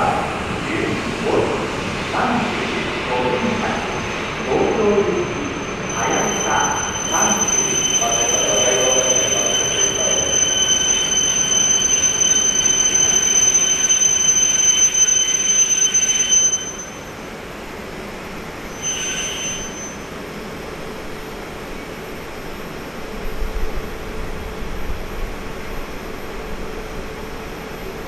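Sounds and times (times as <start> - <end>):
high steady train squeal: 0.0 - 28.0
train running noise: 0.0 - 28.0.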